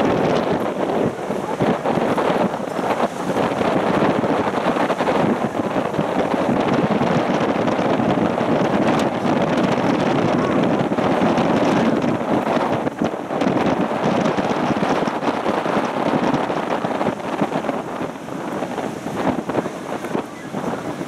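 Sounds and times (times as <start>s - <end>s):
surf breaking: 0.0s - 21.0s
wind buffeting microphone: 0.0s - 21.0s.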